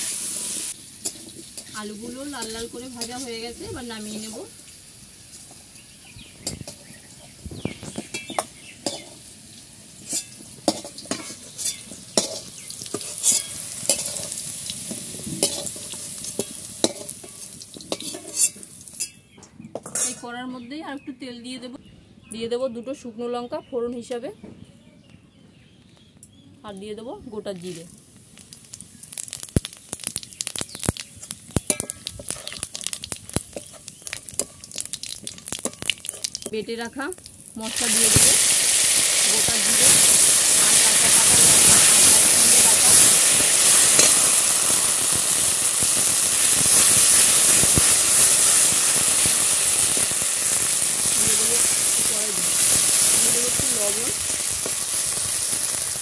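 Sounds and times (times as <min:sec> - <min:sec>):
hot oil sizzling: 0:00.0 - 0:20.2, 0:27.3 - 0:56.0.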